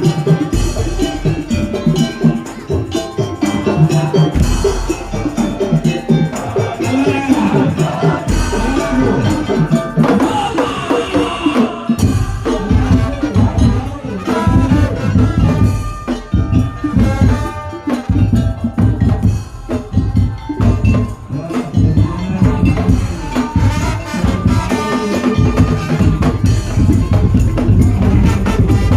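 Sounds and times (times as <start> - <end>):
drums and slit drums playing: 0.0 - 28.9.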